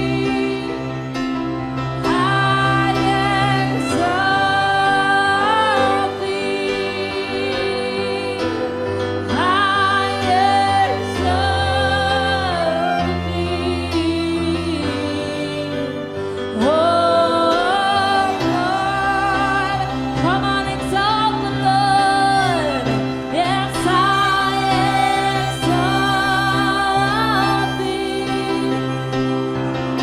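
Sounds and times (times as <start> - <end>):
sustained instrumental chords: 0.0 - 30.0.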